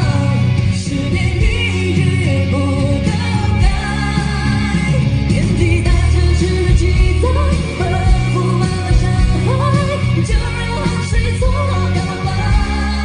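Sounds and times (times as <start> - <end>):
band accompaniment with bass: 0.0 - 13.0
man singing into a microphone: 0.0 - 13.0.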